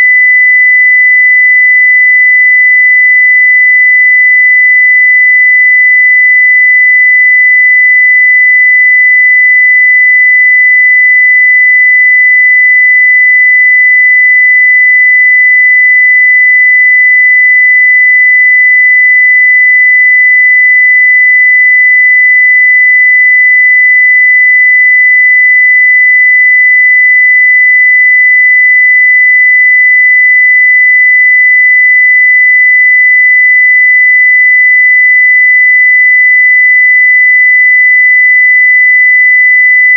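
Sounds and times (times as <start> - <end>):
high-pitched sine test tone: 0.0 - 39.9.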